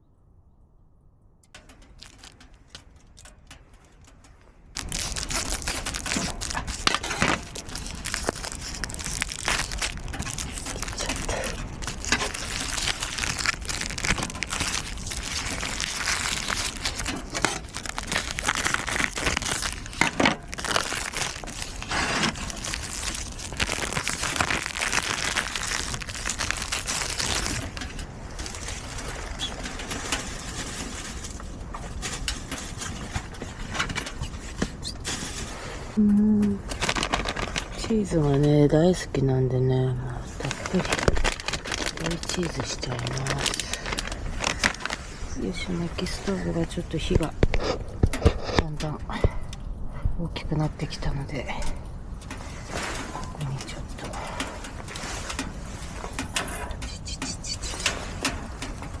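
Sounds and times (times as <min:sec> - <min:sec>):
food packaging crinkling: 0:01.6 - 0:04.1, 0:04.7 - 0:38.9, 0:39.8 - 0:48.7, 0:51.9 - 0:59.0.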